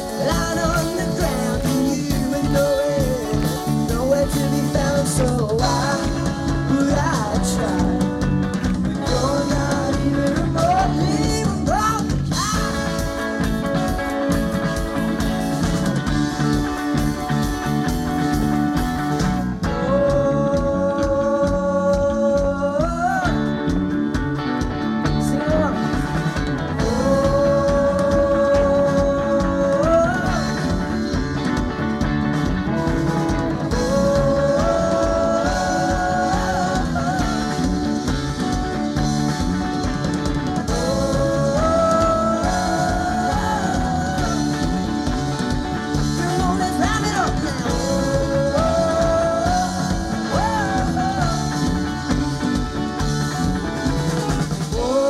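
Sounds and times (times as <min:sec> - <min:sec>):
bass: 0:00.0 - 0:55.0
drum kit: 0:00.0 - 0:55.0
melodic lead line: 0:00.0 - 0:55.0.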